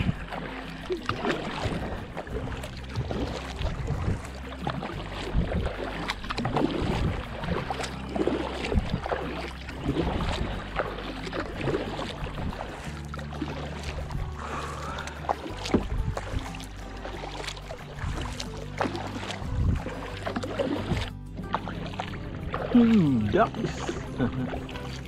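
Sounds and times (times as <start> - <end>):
paddle pulling through water: 0.0 - 25.0
water splashes and drips: 0.0 - 25.0
water swishing along hull: 0.0 - 25.0.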